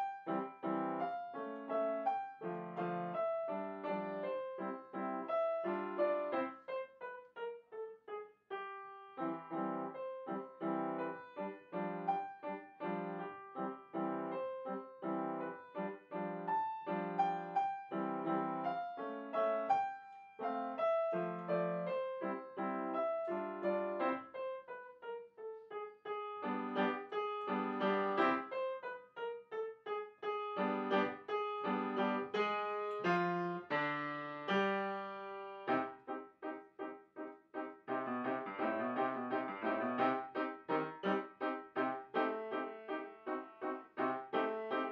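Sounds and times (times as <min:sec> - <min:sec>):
solo piano music: 0:00.0 - 0:44.9.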